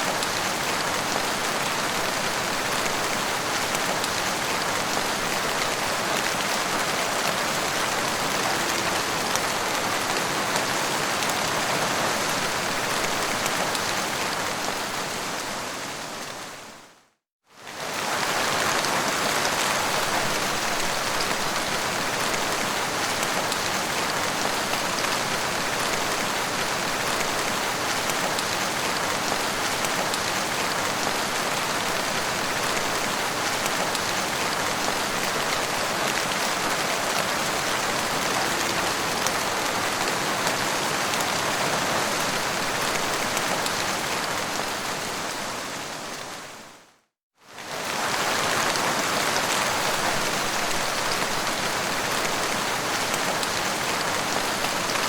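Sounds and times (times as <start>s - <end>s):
heavy rain falling: 0.0s - 16.8s, 17.6s - 46.9s, 47.5s - 55.0s.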